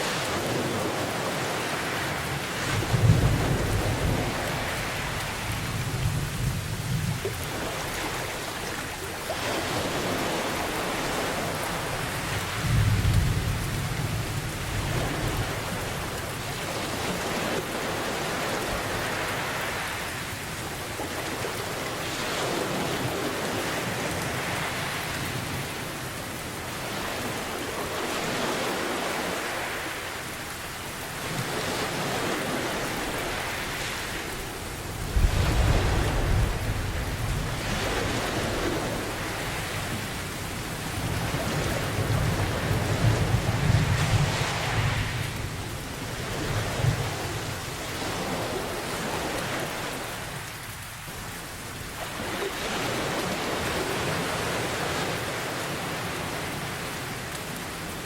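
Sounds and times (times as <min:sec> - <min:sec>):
heavy rain: 0:00.0 - 0:58.0
ocean waves washing: 0:00.0 - 0:58.0.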